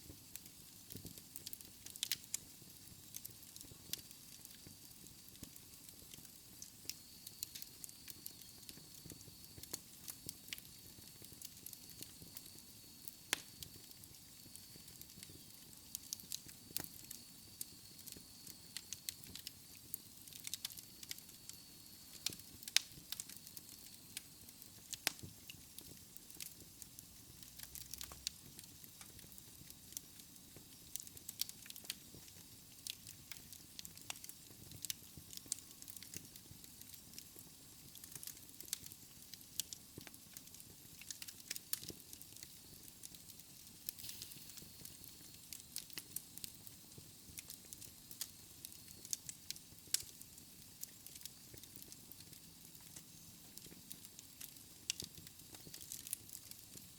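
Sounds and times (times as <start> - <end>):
soft hiss of flames: 0.0 - 56.9
wood fire crackling and popping: 0.0 - 56.9.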